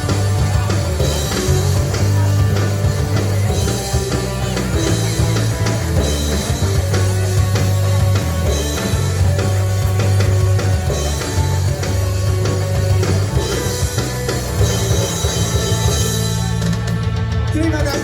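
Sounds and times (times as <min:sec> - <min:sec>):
pop-punk band playing: 0:00.0 - 0:18.0.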